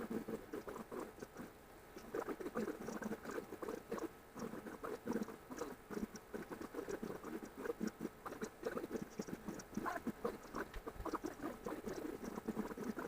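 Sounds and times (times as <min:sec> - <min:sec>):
sped-up cat and kittens squeaks: 0:00.2 - 0:13.0.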